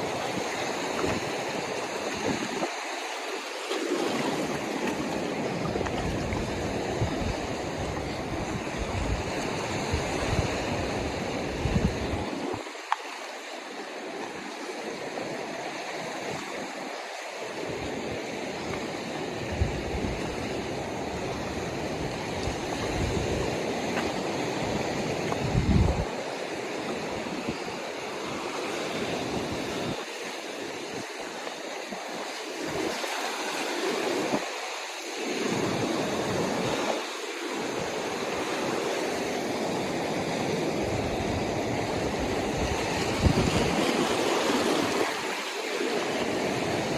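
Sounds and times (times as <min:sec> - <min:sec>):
wind buffeting microphone: 0:00.0 - 0:03.0, 0:04.0 - 0:12.8, 0:17.5 - 0:34.6, 0:35.3 - 0:46.9
ocean surf washing on shore: 0:00.0 - 0:46.9.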